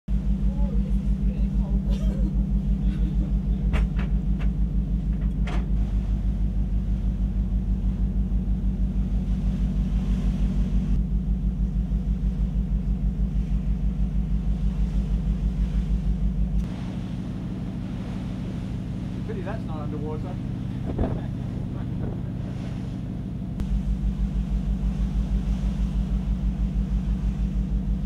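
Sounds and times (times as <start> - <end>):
ship engines throbbing hum: 0.1 - 28.0.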